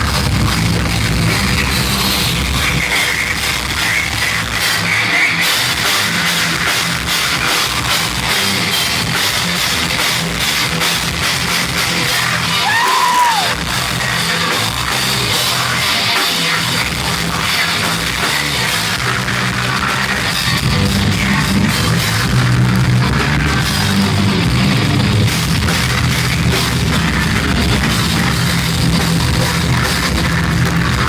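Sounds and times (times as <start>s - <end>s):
heavy metal band playing live: 0.0s - 31.0s.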